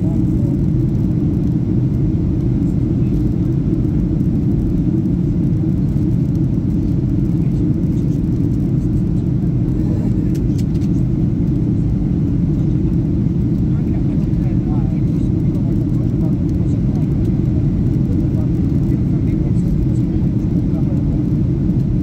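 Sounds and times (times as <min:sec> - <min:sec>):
airliner engine rumble in cabin: 0:00.0 - 0:22.0.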